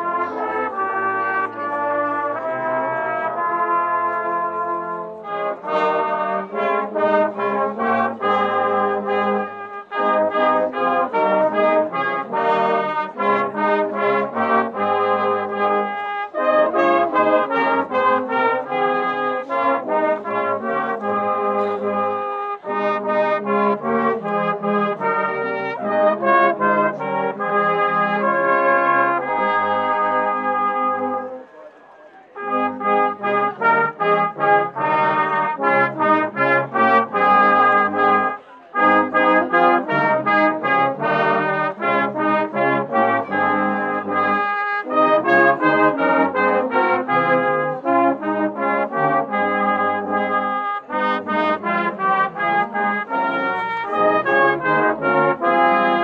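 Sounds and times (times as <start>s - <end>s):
brass band playing: 0.0s - 31.8s, 32.4s - 56.0s.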